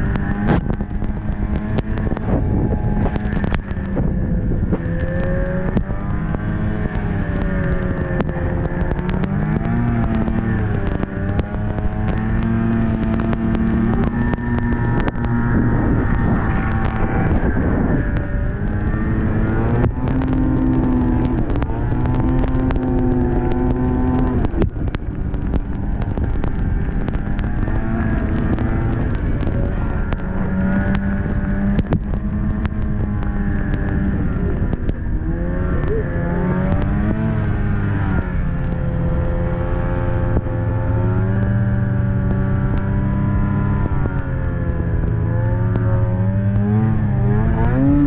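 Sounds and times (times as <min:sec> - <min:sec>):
snowmobile engine running: 0:00.0 - 0:48.0.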